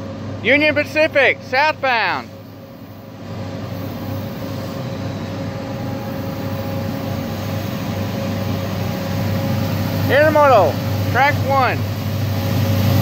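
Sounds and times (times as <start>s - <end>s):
freight train locomotives rumbling: 0.0s - 13.0s.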